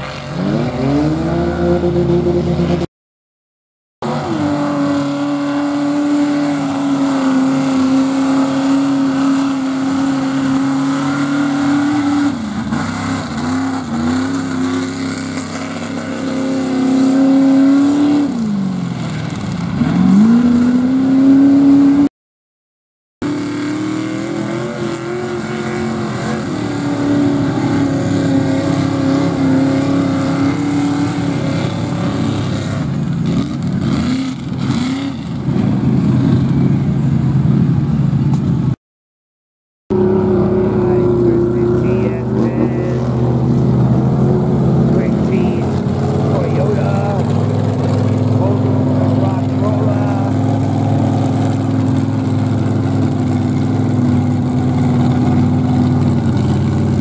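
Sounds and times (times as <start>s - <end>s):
truck engine revving: 0.0s - 2.9s, 4.0s - 22.1s, 23.2s - 38.8s, 39.9s - 57.0s
tires spinning through mud: 4.0s - 22.1s, 23.2s - 38.7s, 39.9s - 57.0s.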